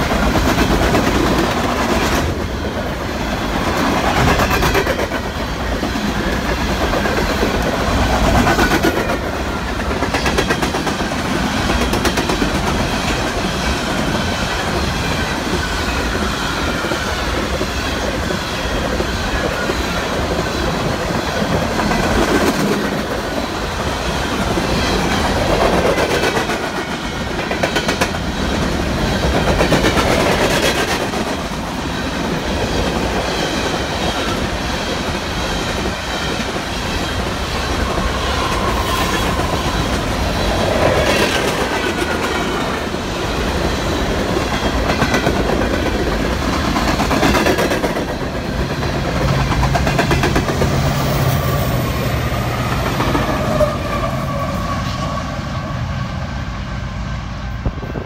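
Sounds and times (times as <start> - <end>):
diesel locomotive engines droning: 0.0 - 58.0
train wheels rumbling on rail: 0.0 - 58.0.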